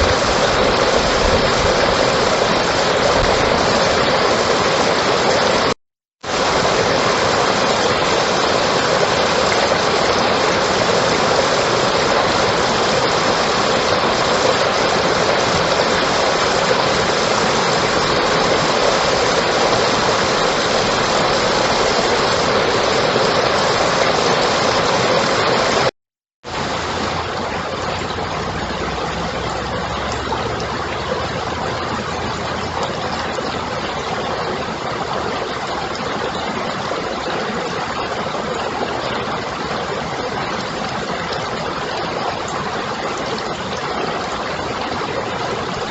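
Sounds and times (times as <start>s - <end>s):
steady rushing noise: 0.0s - 37.2s.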